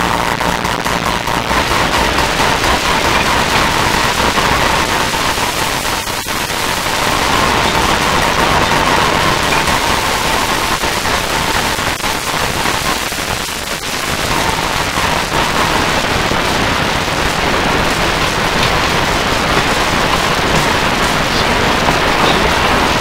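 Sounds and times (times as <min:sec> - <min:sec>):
harsh noise music: 0:00.0 - 0:23.0.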